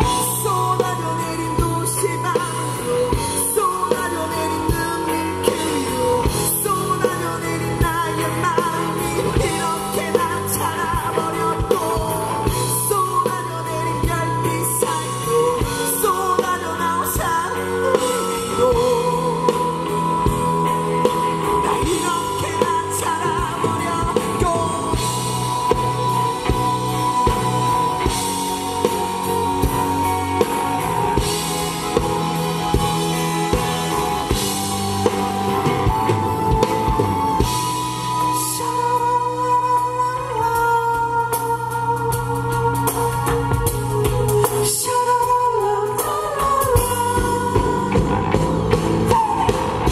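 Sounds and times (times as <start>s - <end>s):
drum kit: 0.0s - 49.9s
electric bass: 0.0s - 49.9s
man singing with live band: 0.0s - 49.9s.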